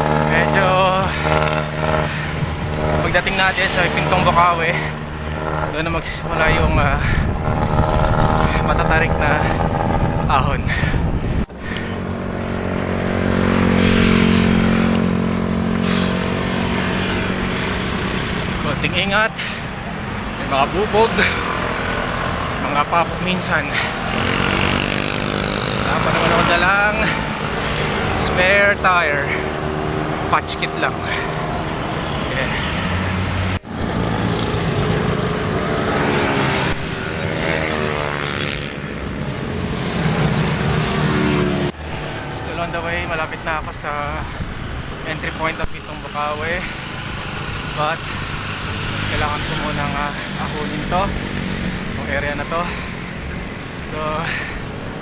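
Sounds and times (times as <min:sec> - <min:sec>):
traffic and road noise: 0:00.0 - 0:55.0
vehicle engine humming: 0:00.0 - 0:55.0.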